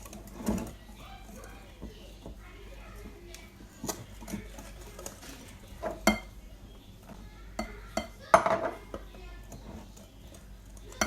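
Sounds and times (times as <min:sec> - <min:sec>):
utensil scraping mixing bowl: 0:00.0 - 0:11.0.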